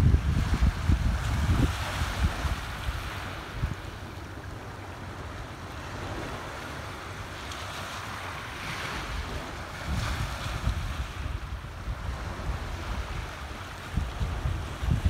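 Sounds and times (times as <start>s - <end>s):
wind buffeting microphone: 0.0s - 7.4s, 8.1s - 15.0s
small waves washing on rocks: 0.0s - 15.0s.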